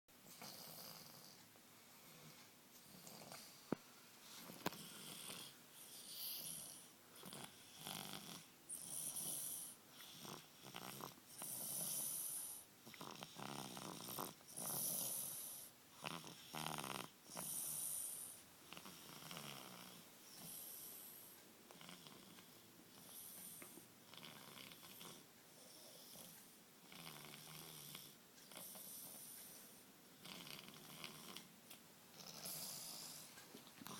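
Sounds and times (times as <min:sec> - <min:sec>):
baby snoring: 0:04.4 - 0:29.6, 0:30.2 - 0:31.5, 0:32.2 - 0:33.9.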